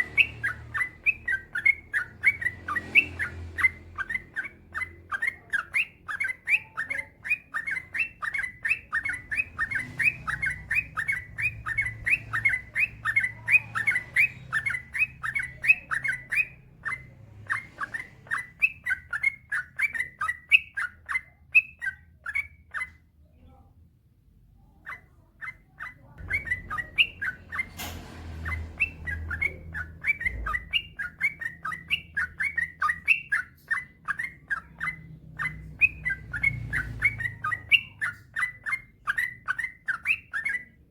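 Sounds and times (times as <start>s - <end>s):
bird chirping song: 0.0s - 23.7s, 24.6s - 40.9s.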